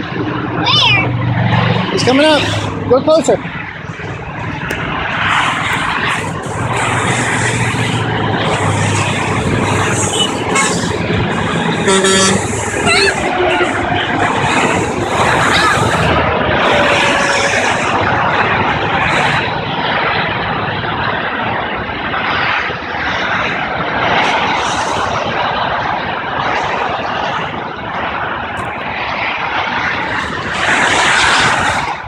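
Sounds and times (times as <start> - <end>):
highway traffic passing: 0.0 - 32.0.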